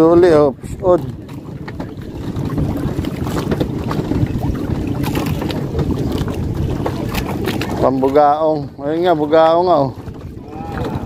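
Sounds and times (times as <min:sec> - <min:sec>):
boat and water noise: 0:00.0 - 0:11.0
wind buffeting microphone: 0:00.0 - 0:11.0.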